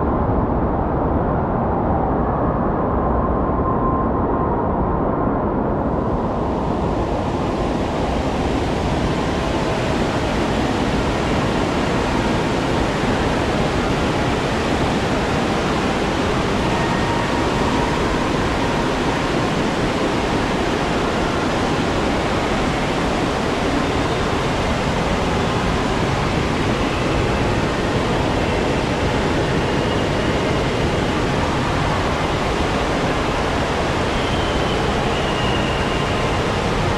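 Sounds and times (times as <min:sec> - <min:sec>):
rushing water: 0:06.3 - 0:36.9.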